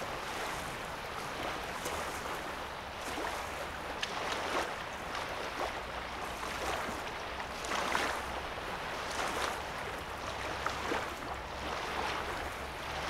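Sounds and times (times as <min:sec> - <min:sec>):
wavelets lapping on shore: 0:00.0 - 0:13.0.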